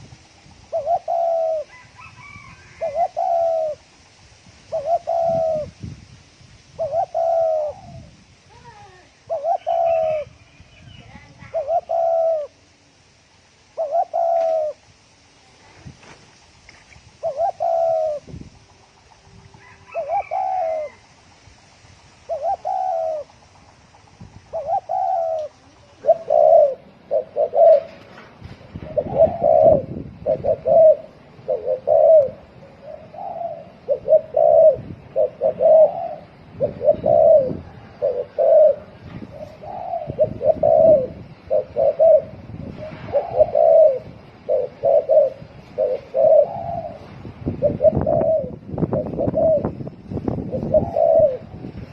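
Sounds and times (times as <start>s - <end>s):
dove cooing: 0.7s - 5.8s, 6.7s - 12.8s, 13.7s - 14.9s, 17.1s - 21.2s, 22.2s - 51.9s.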